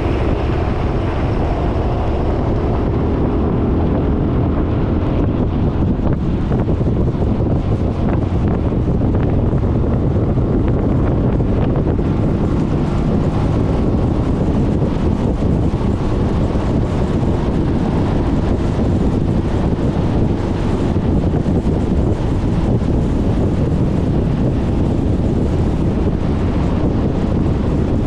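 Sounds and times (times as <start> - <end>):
scooter running and road noise: 0.0 - 28.0
wind rushing over microphone: 0.0 - 28.0.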